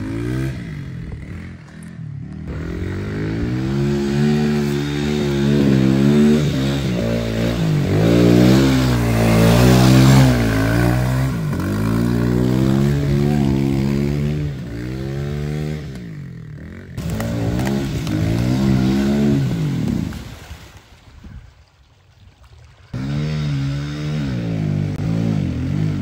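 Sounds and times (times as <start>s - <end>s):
dirt bike engine revving: 0.0s - 20.6s, 23.0s - 26.0s
mud and water splashing: 0.0s - 26.0s.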